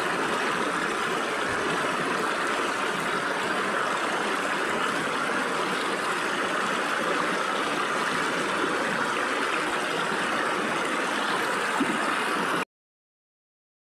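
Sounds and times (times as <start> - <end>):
stream water rushing over rocks: 0.0 - 12.6.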